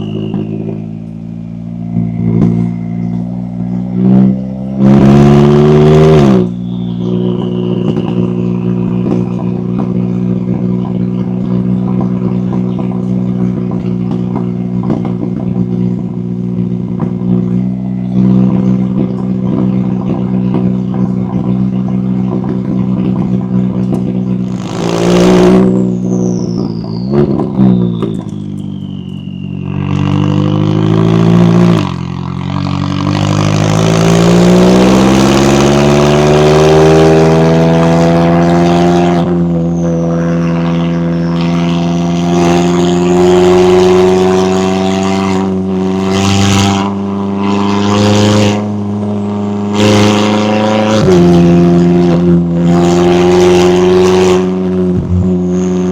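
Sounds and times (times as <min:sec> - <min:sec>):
exhaust cracks: 0:00.0 - 0:49.0, 0:49.6 - 0:55.9
sports car engine revving: 0:00.0 - 0:55.9.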